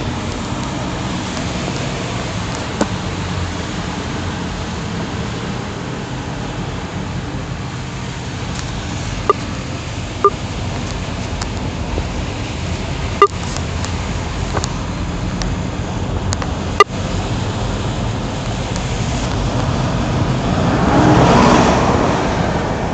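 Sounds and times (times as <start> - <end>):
car road noise in heavy rain: 0.0 - 22.9
engine running low: 0.0 - 22.9
tyres hissing on wet road: 0.0 - 22.9.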